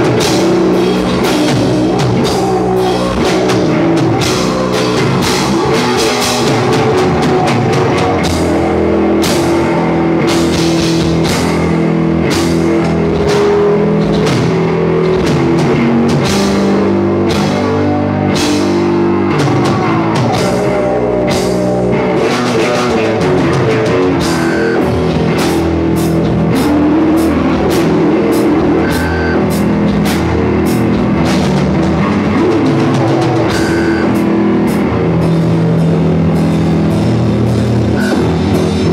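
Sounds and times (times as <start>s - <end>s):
drum kit beat: 0.0s - 38.9s
guitar: 0.0s - 38.9s
rock band playing: 0.0s - 38.9s.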